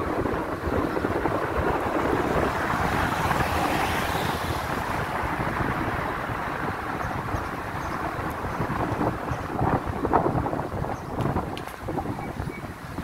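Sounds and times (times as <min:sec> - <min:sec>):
car tyre and wind noise: 0:00.0 - 0:13.0.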